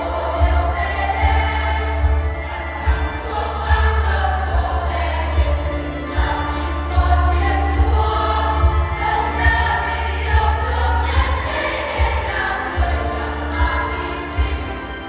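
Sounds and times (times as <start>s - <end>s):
choir singing: 0.0s - 15.0s
instrumental accompaniment with bass: 0.0s - 15.0s.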